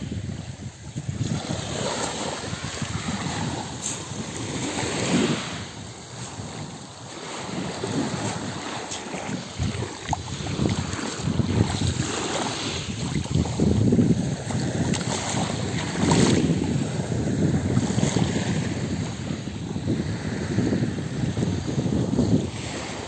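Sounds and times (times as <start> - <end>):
waves washing over pebbles: 0.0 - 23.0
wind rumbling on microphone: 0.0 - 23.0.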